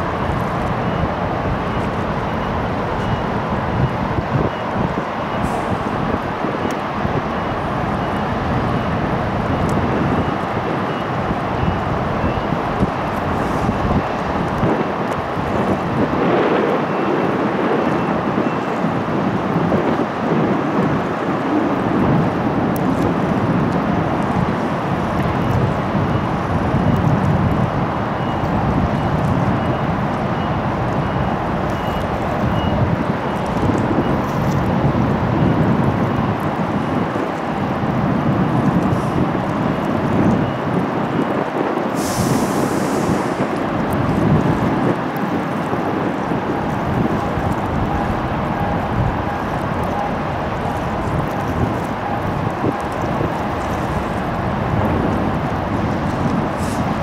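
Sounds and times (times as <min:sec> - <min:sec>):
low rumble of harbour and ships: 0:00.0 - 0:57.0
wind buffeting microphone: 0:00.0 - 0:57.0.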